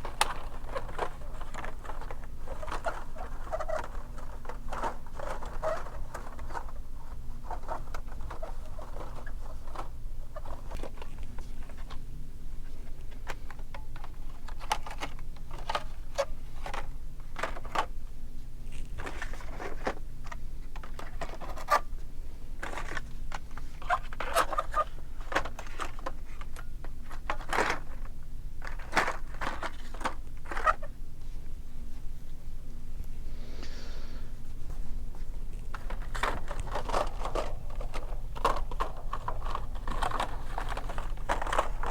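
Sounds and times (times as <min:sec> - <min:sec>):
plastic packaging clicks and scrapes: 0:00.0 - 0:31.0, 0:35.1 - 0:41.9
steady low hum: 0:00.0 - 0:41.9.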